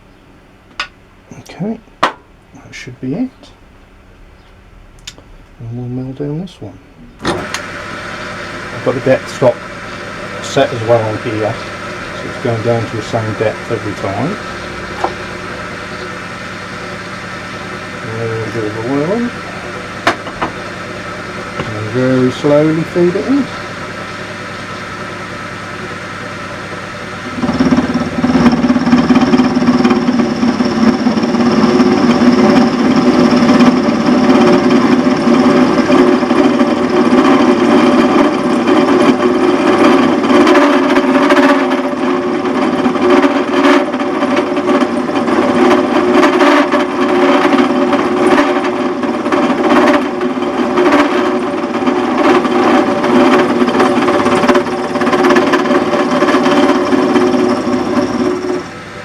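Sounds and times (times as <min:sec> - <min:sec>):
pillar drill motor drone: 0:07.2 - 0:59.0
cutter scraping and chattering: 0:07.4 - 0:41.8, 0:42.9 - 0:58.8.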